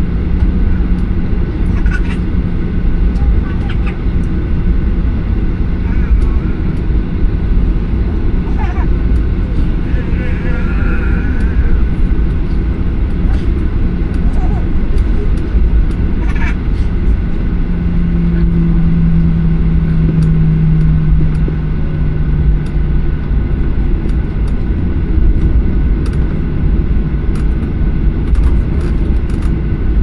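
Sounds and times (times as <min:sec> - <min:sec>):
airplane engines rumbling in cabin: 0:00.0 - 0:30.0
steady hum: 0:00.0 - 0:30.0.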